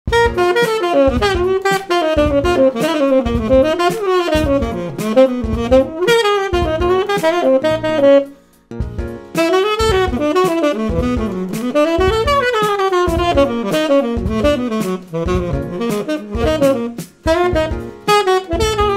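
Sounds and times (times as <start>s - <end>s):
tenor saxophone jazz line: 0.1s - 18.9s.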